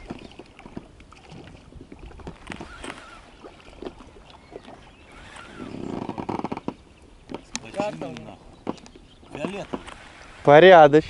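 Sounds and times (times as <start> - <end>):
small knocks and splashes: 0.0 - 5.4, 6.2 - 10.2
water lapping against boat: 0.0 - 11.0.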